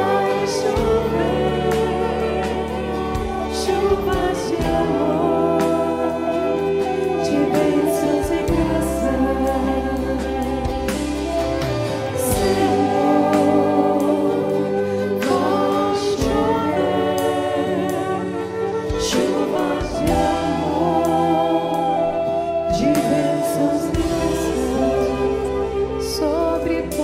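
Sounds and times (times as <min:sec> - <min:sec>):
mixed choir singing a hymn: 0:00.0 - 0:27.0.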